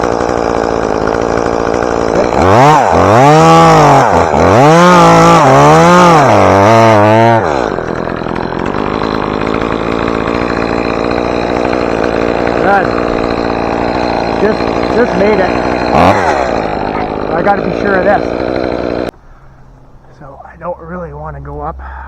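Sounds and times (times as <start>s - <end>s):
chainsaw revving: 0.0s - 19.2s.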